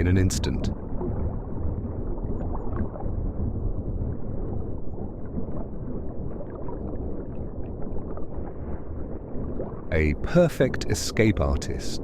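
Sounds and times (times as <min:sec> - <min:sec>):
underwater rumble of moving water: 0:00.0 - 0:12.0.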